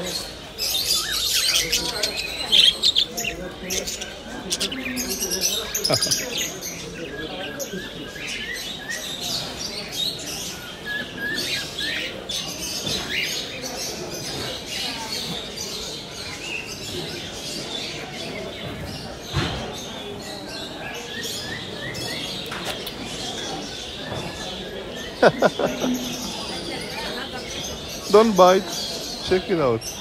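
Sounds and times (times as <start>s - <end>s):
market crowd hubbub: 0.0s - 30.0s
small birds chirping: 0.0s - 30.0s.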